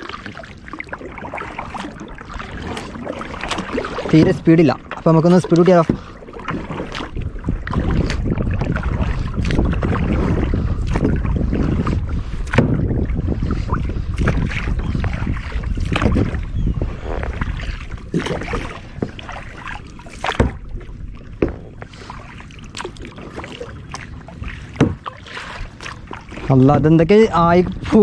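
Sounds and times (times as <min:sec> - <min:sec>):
paddle splashing in water: 0:00.0 - 0:28.0.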